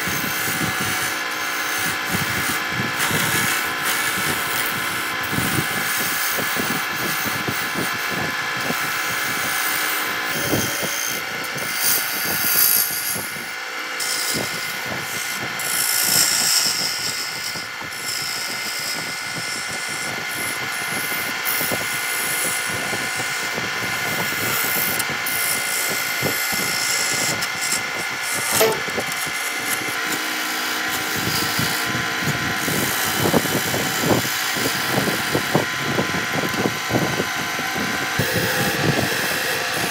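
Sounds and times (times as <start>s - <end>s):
chisel scraping spinning wood: 0.0s - 39.9s
wood lathe motor humming: 0.0s - 39.9s.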